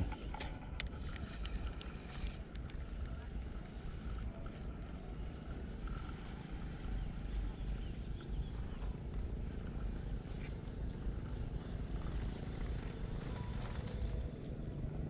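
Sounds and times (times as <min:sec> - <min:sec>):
constant low rumble: 0:00.0 - 0:15.0
insects chirring: 0:00.0 - 0:15.0.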